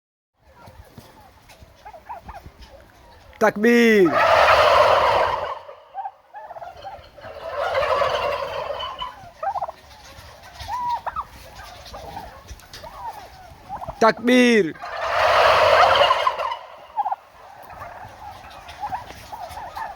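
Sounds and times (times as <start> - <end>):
turkeys gobbling: 0.4 - 19.9.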